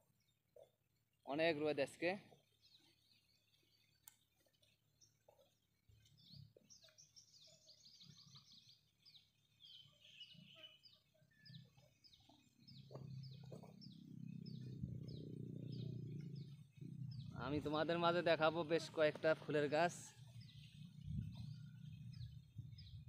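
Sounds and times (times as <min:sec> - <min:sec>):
bird chirping: 0:01.9 - 0:23.0.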